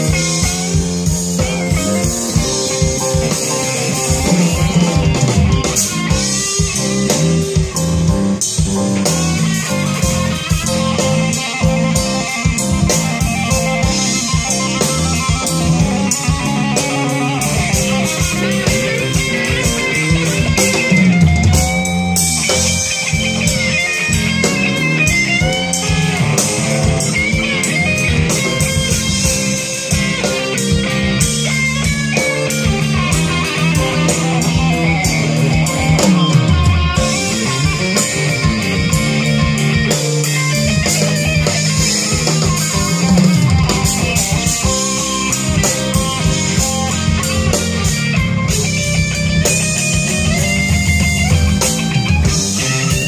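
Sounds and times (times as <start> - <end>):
bass guitar: 0.0 - 53.0
drum kit: 0.0 - 53.0
electric guitar: 0.0 - 53.0
keyboard: 0.0 - 53.0.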